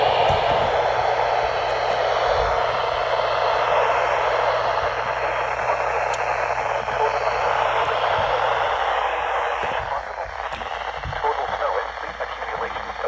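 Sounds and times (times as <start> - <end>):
low hum: 0.0 - 13.0
radio static hiss: 0.0 - 13.0.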